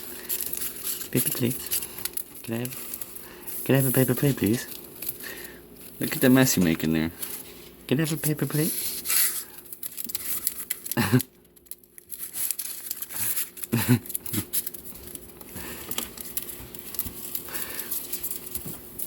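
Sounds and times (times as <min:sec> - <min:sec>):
paper plates rustling and tearing: 0:00.0 - 0:19.0.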